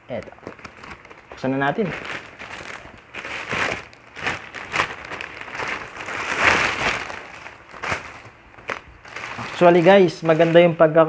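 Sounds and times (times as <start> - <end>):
plastic mailer bag crinkling: 0.1 - 10.8.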